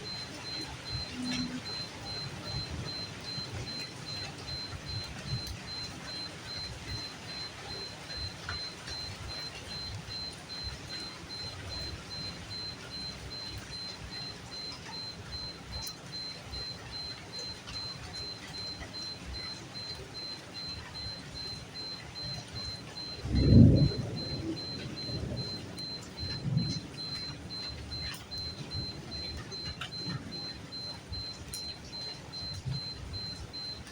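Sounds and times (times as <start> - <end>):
steady rain patter: 0.0 - 33.9.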